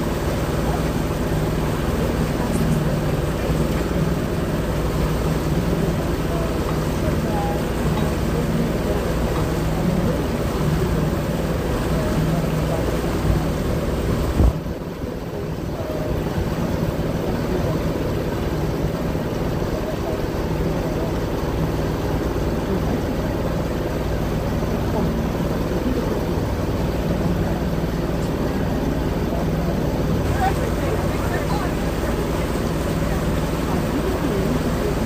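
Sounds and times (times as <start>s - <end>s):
boat engine humming: 0.0s - 35.0s.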